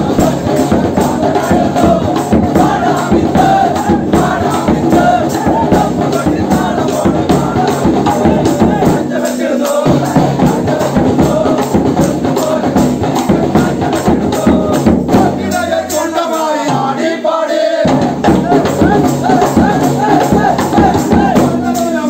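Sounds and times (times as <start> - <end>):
drums beating fast: 0.0 - 22.0
men singing: 0.0 - 22.0.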